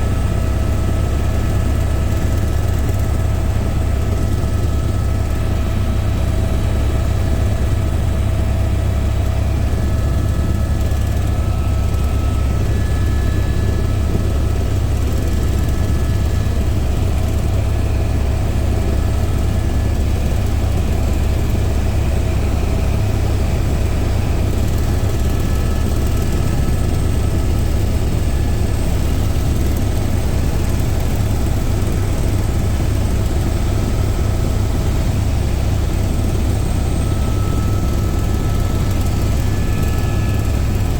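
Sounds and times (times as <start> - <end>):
helicopter turbine and rotor drone: 0.0 - 40.9.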